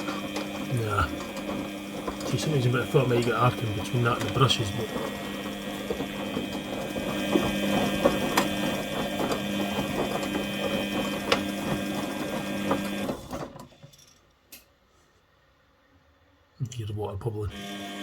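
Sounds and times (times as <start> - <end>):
washing machine motor whine: 0.0 - 14.0, 17.0 - 18.0.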